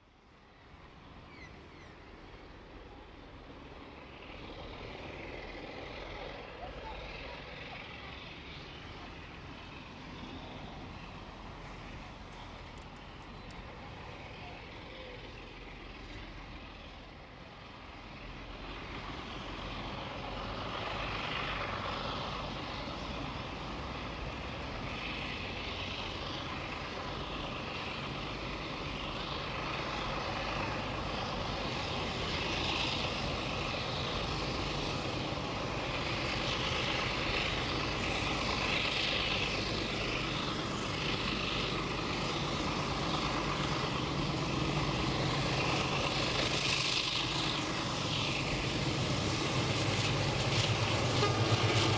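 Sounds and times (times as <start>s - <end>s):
diesel locomotive engines droning: 0.0s - 51.9s.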